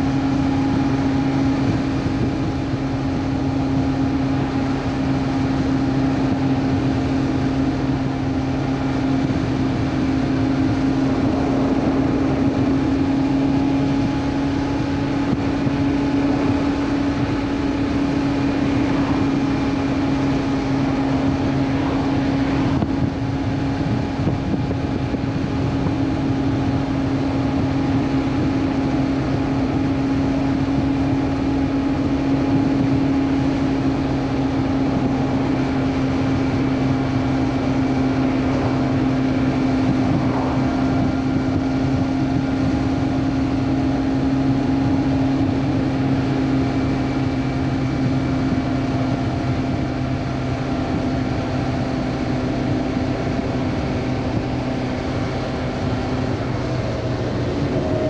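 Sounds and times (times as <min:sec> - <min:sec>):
motorcycle engine humming: 0:00.0 - 0:58.0.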